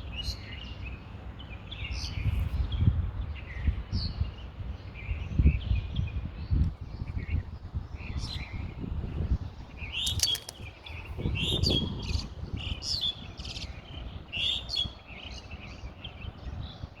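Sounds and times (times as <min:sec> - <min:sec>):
small birds chirping: 0:00.0 - 0:17.0
wind rumble on microphone: 0:01.7 - 0:17.0.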